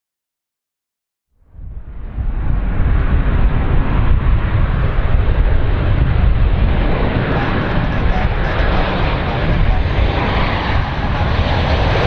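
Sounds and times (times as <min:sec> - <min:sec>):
jet engines rumbling: 0:01.5 - 0:12.0.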